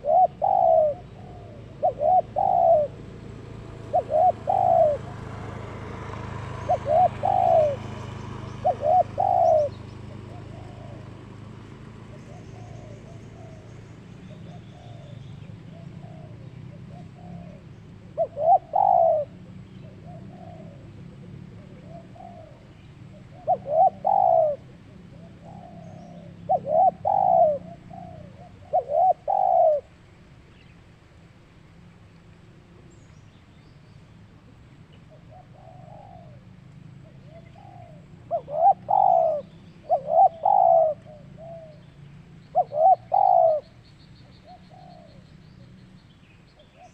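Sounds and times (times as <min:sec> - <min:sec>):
dove cooing: 0:00.0 - 0:30.0, 0:35.0 - 0:45.9.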